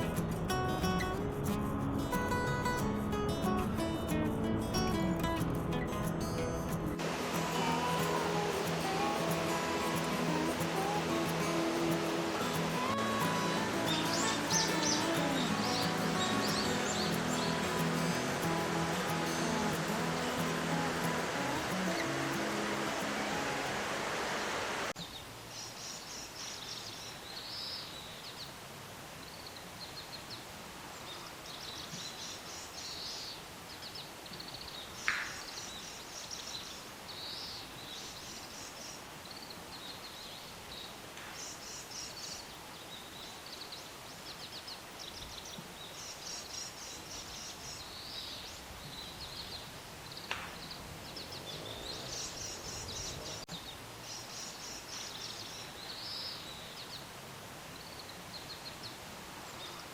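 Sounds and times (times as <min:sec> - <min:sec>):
faint outdoor hiss: 0:00.0 - 0:59.9
songbirds chirping: 0:01.8 - 0:28.6, 0:29.2 - 0:59.9.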